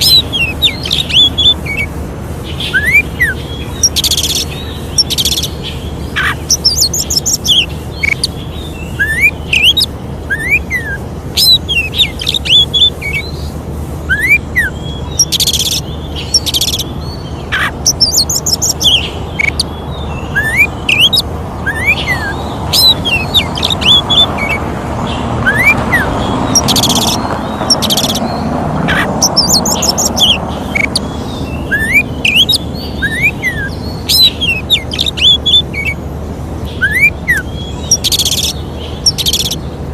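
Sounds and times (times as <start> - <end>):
songbird singing: 0.0 - 39.9
steady low hum: 0.0 - 39.9.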